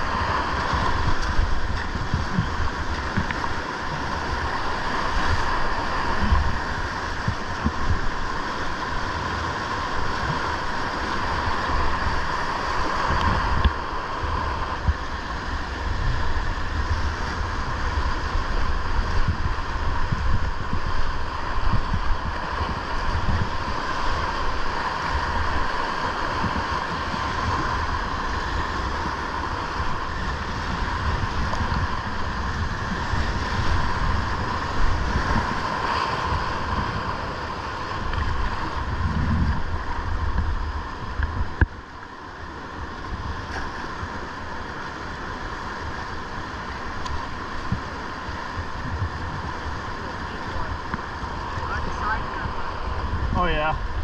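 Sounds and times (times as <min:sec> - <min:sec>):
wind buffeting microphone: 0:00.0 - 0:42.0, 0:42.7 - 0:54.0
river rapids rushing: 0:00.0 - 0:54.0.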